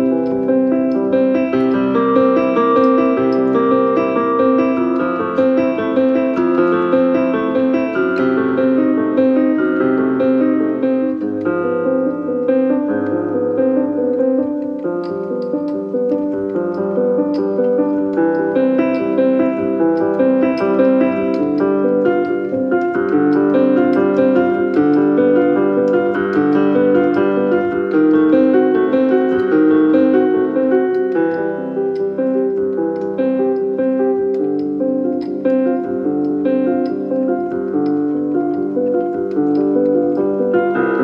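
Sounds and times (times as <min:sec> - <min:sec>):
solo piano piece: 0:00.0 - 0:41.0.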